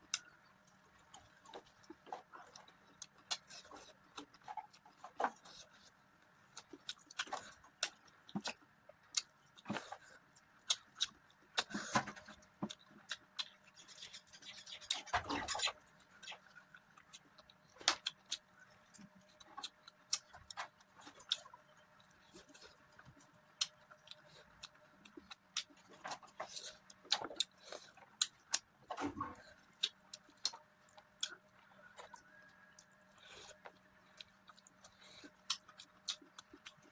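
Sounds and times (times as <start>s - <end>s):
chewing with wet mouth clicks: 0.0s - 36.9s.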